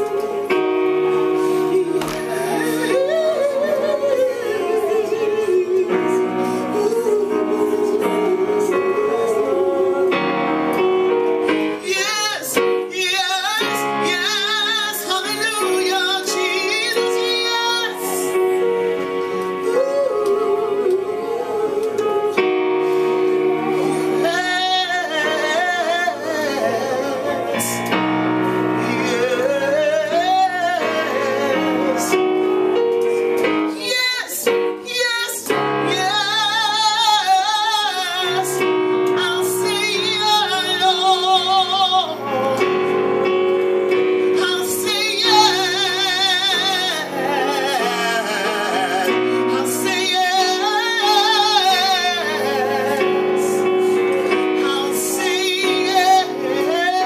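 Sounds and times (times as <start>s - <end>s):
woman singing with vibrato: 0.0s - 32.6s, 33.6s - 57.0s
electronic keyboard chords: 0.0s - 57.0s.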